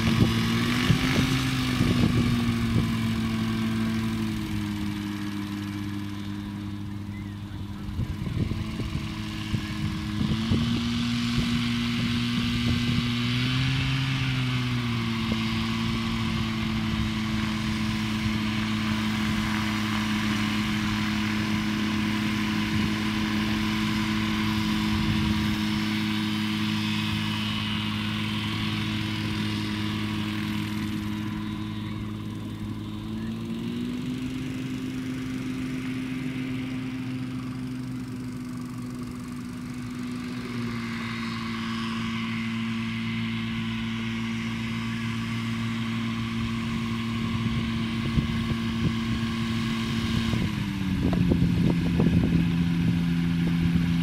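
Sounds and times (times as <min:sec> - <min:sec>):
ultralight engine and propeller running: 0:00.0 - 0:54.0.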